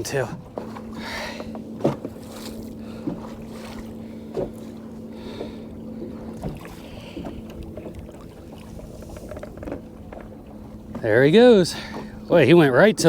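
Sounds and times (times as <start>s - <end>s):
steady low hum: 0.0s - 13.0s
water sloshing against boat hull: 0.0s - 13.0s.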